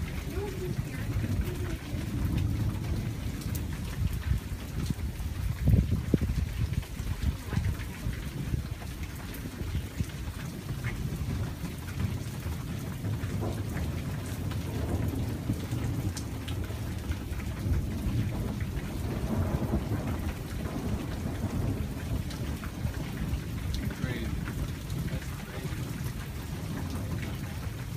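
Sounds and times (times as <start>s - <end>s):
rolling thunder: 0.0s - 27.9s
steady rain: 0.0s - 27.9s.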